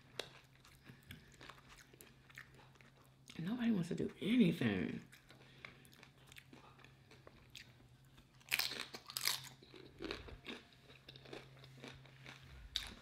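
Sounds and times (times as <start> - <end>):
tortilla chip crunching: 0.0 - 3.4, 5.0 - 13.0.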